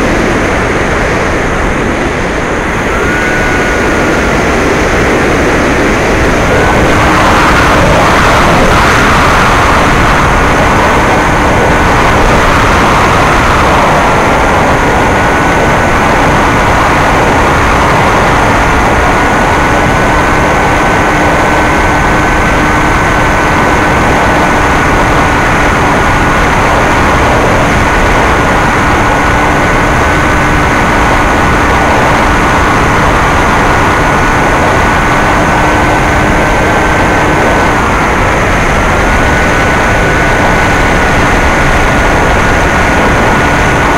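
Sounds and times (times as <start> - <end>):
electric motor high whine: 0.0 - 43.9
loud wind rush: 0.0 - 43.9.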